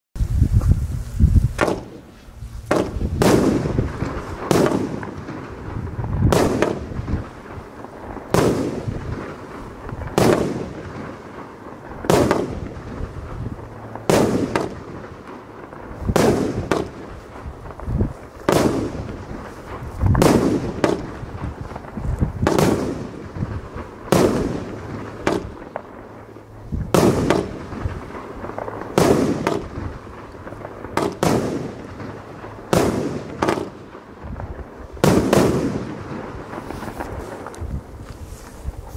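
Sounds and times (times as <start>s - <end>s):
firework shots bursting with bangs: 0.5s - 38.9s.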